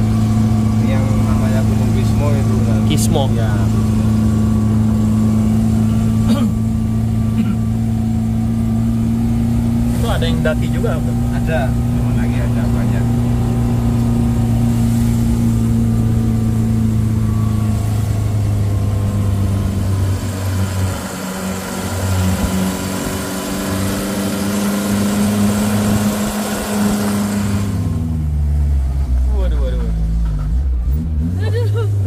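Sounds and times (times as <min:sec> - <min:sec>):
jeep engine running: 0:00.0 - 0:32.0
wind and road noise: 0:00.0 - 0:32.0.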